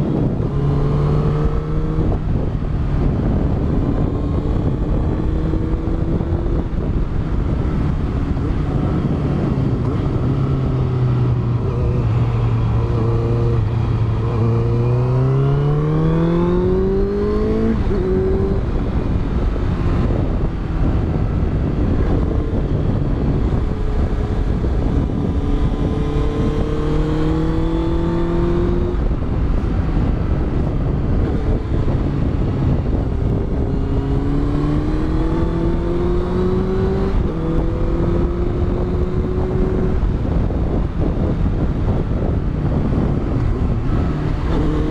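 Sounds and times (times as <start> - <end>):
motorcycle engine accelerating: 0.0 - 44.9
wind and road noise: 0.0 - 44.9.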